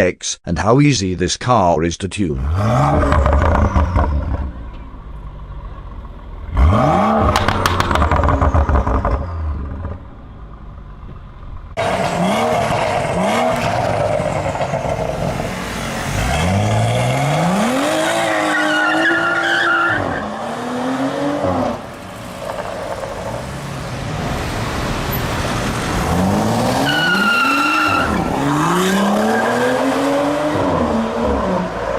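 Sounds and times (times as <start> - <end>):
car engine hard acceleration: 2.4 - 18.5, 20.0 - 31.9.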